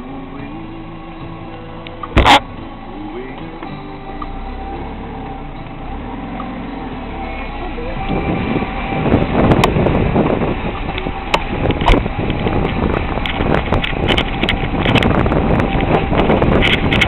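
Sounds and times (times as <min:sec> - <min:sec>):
vehicle rumbling on dirt track: 0:00.0 - 0:17.0.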